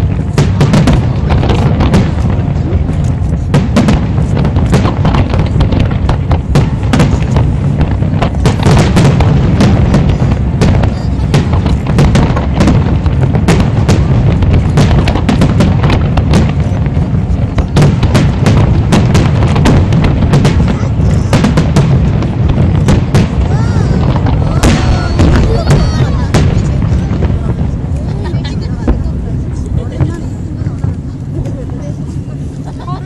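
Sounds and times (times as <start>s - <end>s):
deep rumble: 0.0s - 33.0s
fireworks bursting and crackling: 0.0s - 33.0s.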